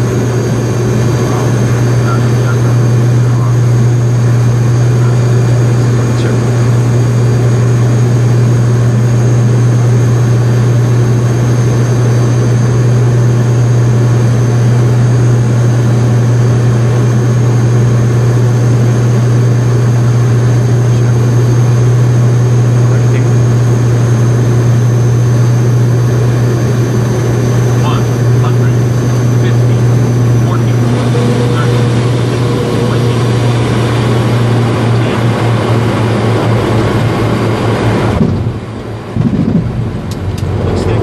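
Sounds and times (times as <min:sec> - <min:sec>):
faint high whine: 0:00.0 - 0:12.6, 0:13.4 - 0:41.0
propeller drone in cockpit: 0:00.0 - 0:41.0.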